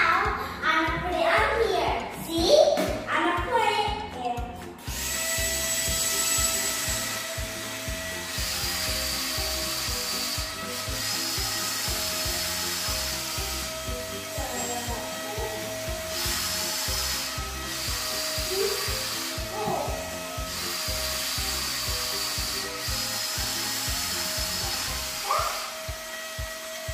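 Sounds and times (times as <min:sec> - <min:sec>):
background music with steady beat: 0:00.0 - 0:26.9
toy car motor whirring: 0:04.8 - 0:26.9.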